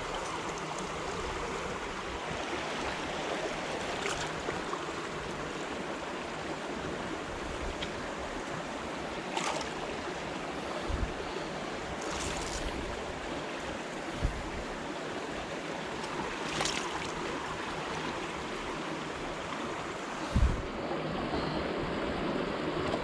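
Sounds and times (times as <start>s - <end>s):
river flowing: 0.0s - 22.9s.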